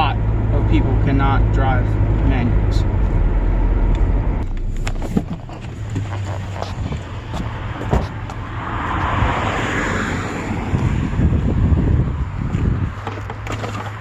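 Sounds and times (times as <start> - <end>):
heavy low rumble: 0.0 - 9.4, 10.6 - 13.0
truck engine hum from cab: 0.0 - 9.6, 10.3 - 14.0
vehicle rushing by: 0.0 - 13.0.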